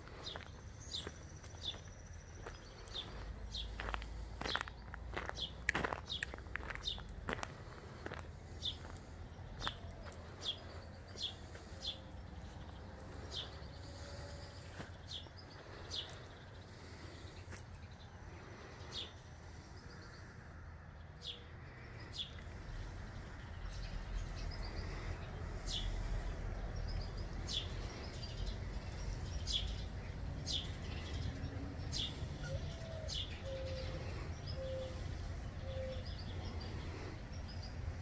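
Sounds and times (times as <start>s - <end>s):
low outdoor rumble: 0.0s - 38.0s
songbirds chirping: 0.0s - 38.0s.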